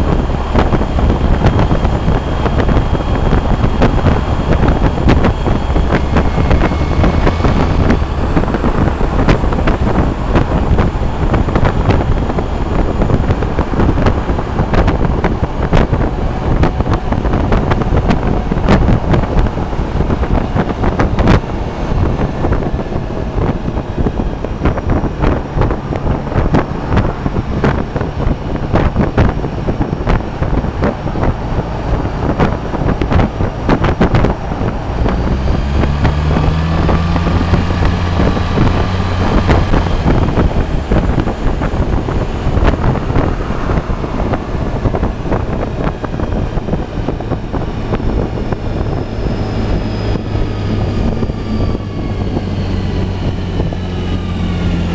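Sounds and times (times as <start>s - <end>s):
scooter engine drone: 0.0s - 54.9s
wind buffeting microphone: 0.0s - 54.9s.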